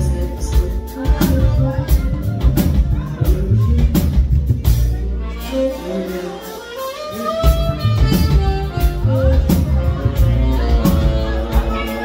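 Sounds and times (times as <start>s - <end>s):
drum kit: 0.0s - 12.0s
heavy bass: 0.0s - 12.0s
keyboard: 0.0s - 12.0s
live band playing: 0.0s - 12.0s.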